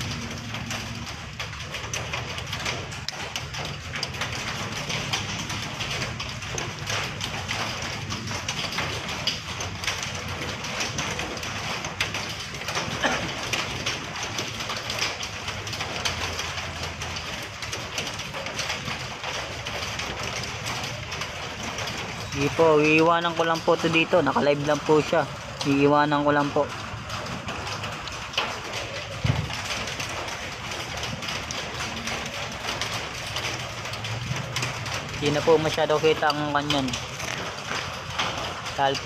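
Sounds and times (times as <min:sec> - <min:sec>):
rain pattering: 0:00.0 - 0:39.0.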